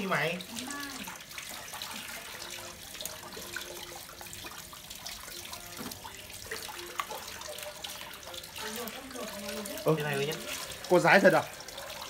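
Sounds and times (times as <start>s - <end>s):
steady watery hiss: 0.0s - 12.0s
wet squelching and splashes: 0.0s - 12.0s.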